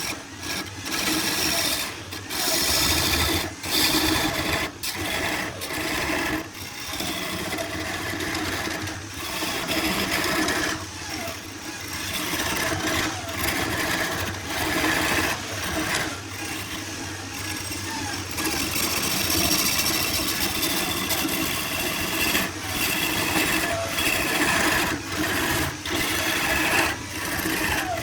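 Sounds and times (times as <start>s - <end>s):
power tool cutting wood: 0.0s - 28.0s.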